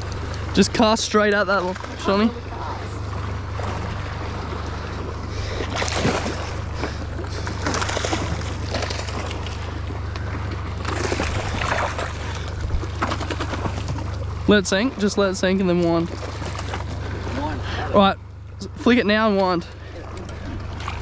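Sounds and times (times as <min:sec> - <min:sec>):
boat engine hum: 0:00.0 - 0:21.0
rushing water: 0:00.0 - 0:21.0.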